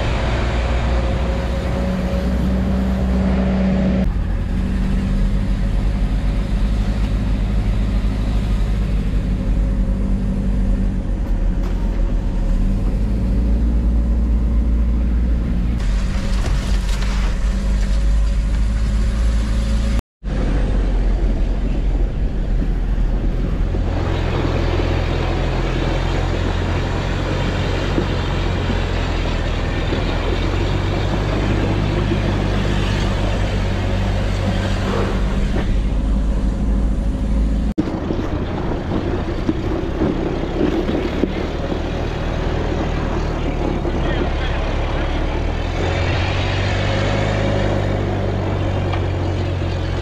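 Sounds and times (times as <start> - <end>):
rough road noise: 0.0 - 50.0
vehicle engine running: 0.0 - 50.0.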